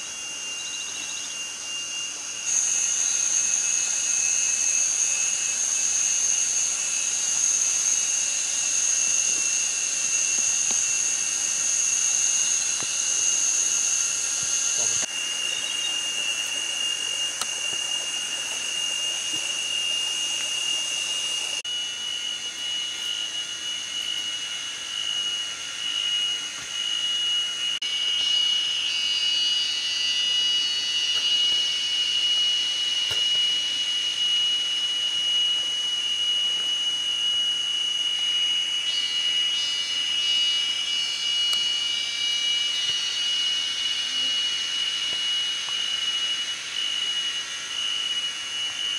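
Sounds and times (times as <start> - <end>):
faint shrill hiss: 0.0 - 48.9
insects droning high whine: 0.0 - 48.9
pulsing insect chorus: 0.0 - 48.9.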